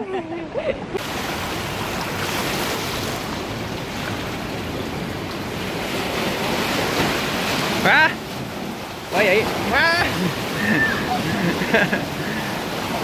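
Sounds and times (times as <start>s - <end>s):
waves washing between rocks: 1.0s - 13.0s.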